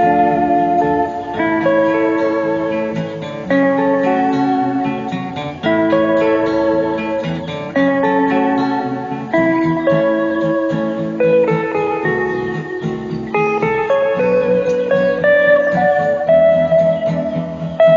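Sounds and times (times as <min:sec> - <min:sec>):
instrumental guitar music: 0:00.0 - 0:17.9.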